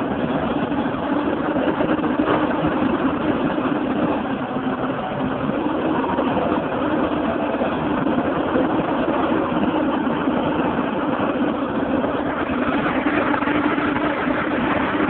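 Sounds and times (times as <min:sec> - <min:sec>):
constant low hum: 0:00.0 - 0:15.0
crane engine running: 0:00.0 - 0:15.0.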